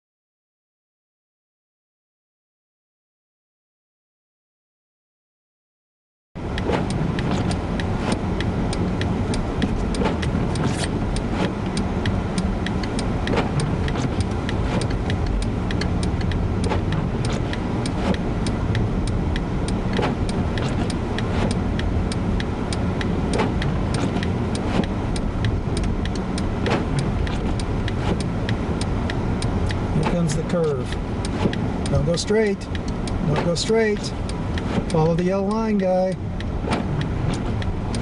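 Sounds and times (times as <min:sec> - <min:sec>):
car cabin road rumble: 0:06.4 - 0:38.0
sharp ticks: 0:06.5 - 0:38.0.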